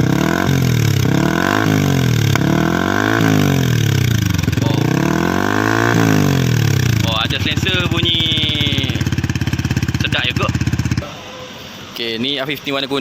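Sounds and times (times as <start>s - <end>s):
motorcycle engine blipped: 0.0s - 11.3s.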